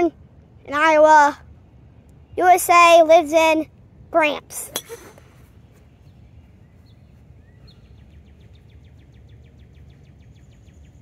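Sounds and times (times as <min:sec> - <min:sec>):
low steady rumble: 0:00.0 - 0:11.0
songbird chirping and trilling: 0:00.0 - 0:11.0.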